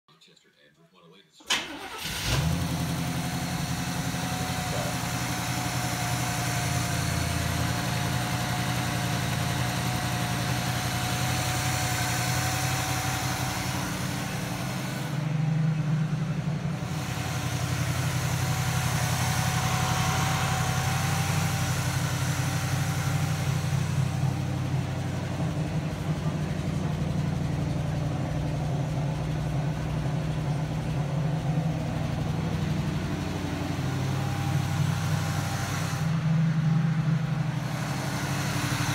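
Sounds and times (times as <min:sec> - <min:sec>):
car engine idling: 0:01.5 - 0:38.9.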